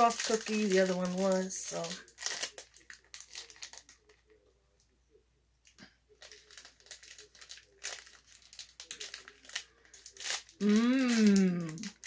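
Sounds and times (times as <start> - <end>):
wrapper crinkling and rustling: 0.0 - 4.4, 6.1 - 12.0.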